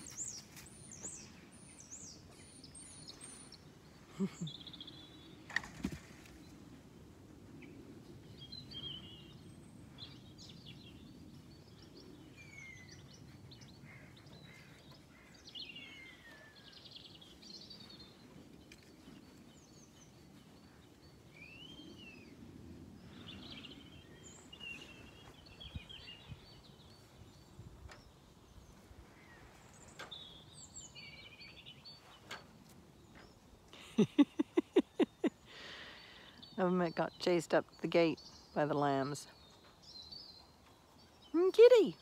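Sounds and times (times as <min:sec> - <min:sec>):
songbirds chirping and whistling: 0:00.0 - 0:42.0.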